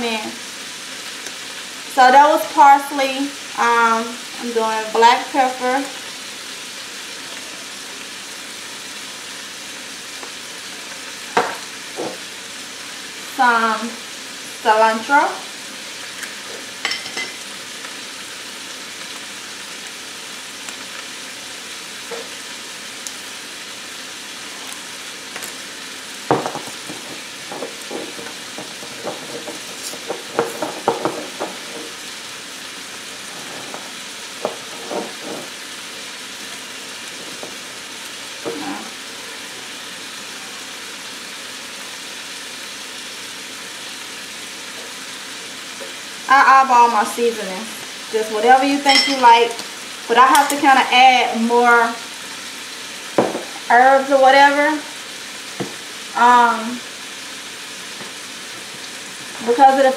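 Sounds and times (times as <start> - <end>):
chicken and vegetables sizzling: 0.0 - 59.9.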